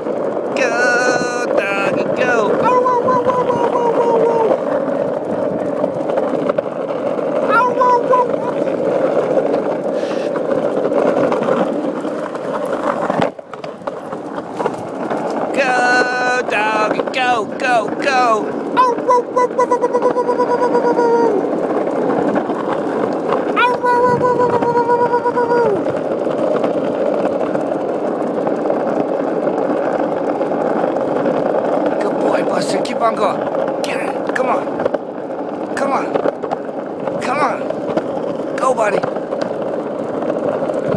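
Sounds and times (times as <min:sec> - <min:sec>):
skateboard wheels rolling on asphalt: 0:00.0 - 0:40.9.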